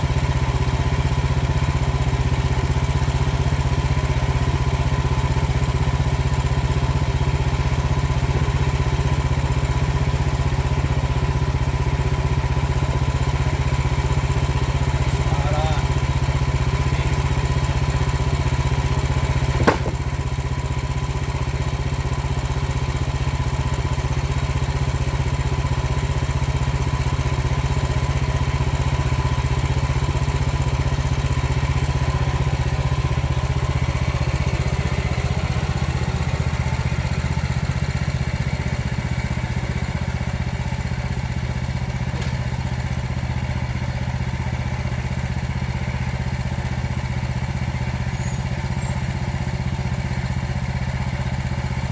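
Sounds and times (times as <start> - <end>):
small gasoline engine running: 0.0 - 51.9.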